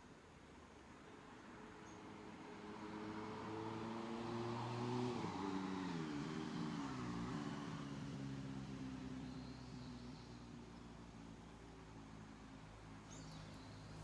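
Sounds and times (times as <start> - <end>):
passing vehicle engine: 2.0 - 14.0.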